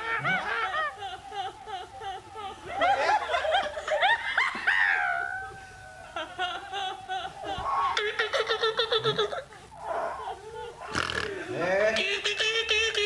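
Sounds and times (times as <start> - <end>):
women laughing: 0.0 - 13.0.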